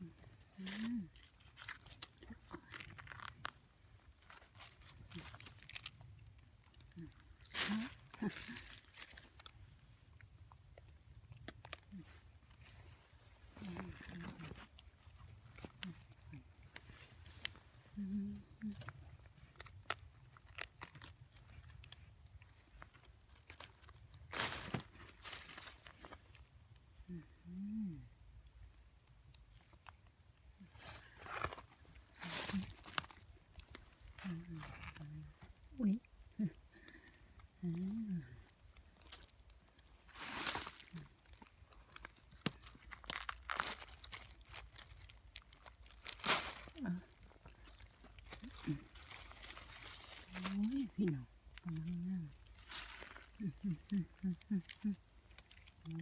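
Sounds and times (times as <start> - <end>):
crunching in dry leaf litter: 0.0 - 9.8, 11.2 - 26.5, 30.6 - 56.0
hands rustling and crinkling: 0.0 - 26.9, 29.0 - 56.0.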